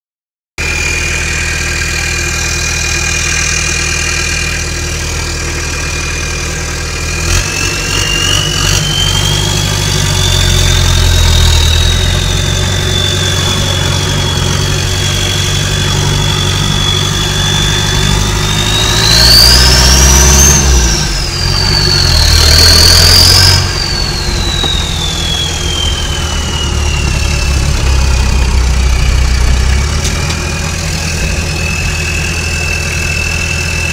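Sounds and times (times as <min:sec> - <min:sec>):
diesel engine idling: 0:00.6 - 0:33.9
turbo whine: 0:00.6 - 0:33.9.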